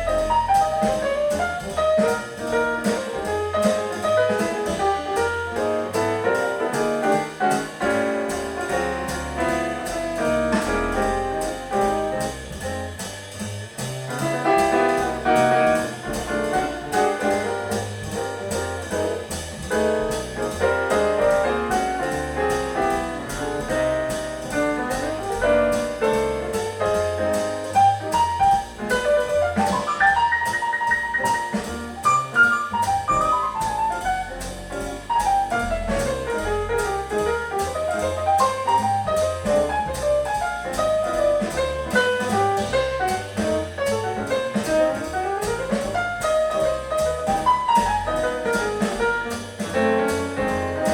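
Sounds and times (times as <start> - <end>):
jazz piano music: 0.0 - 50.9.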